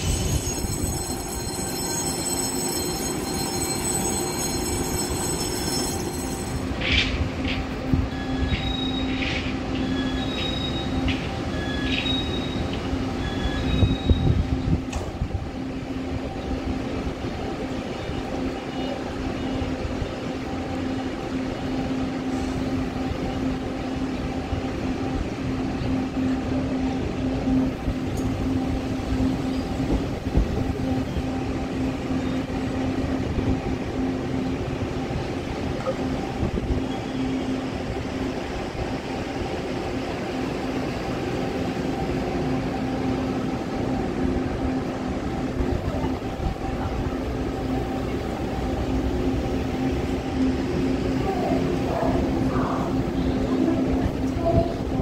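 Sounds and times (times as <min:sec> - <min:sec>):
train mechanical hum and rumble: 0:00.0 - 0:55.0.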